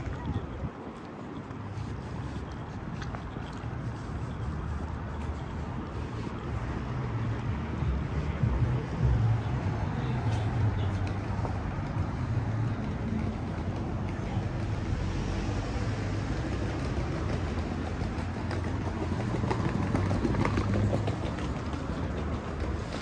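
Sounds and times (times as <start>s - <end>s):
cars passing: 0.0s - 23.0s
hum of engines and tyres: 0.0s - 23.0s.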